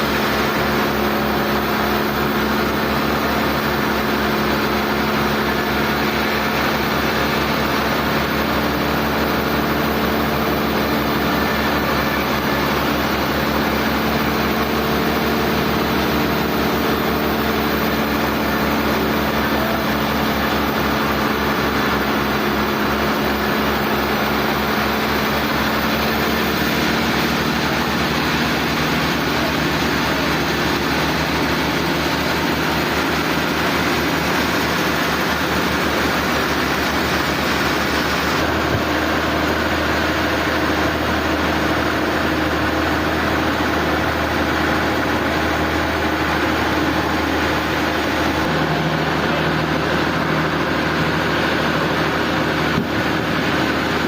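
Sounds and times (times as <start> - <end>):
sawmill machinery humming: 0.0 - 54.0.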